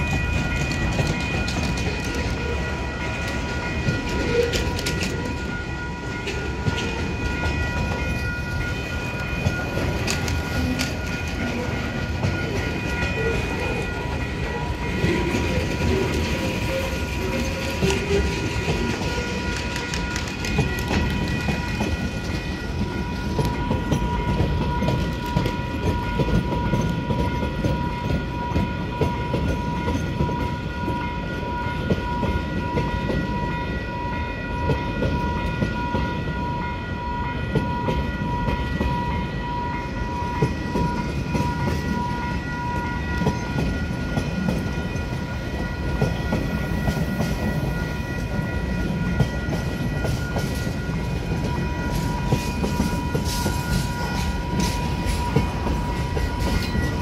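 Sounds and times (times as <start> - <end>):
freight train wagons rumbling: 0.0 - 57.0
level crossing warning bells: 0.0 - 57.0.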